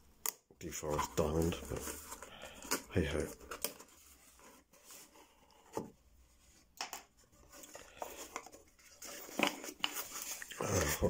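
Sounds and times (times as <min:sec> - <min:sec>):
cardboard rustling: 0:00.8 - 0:11.0.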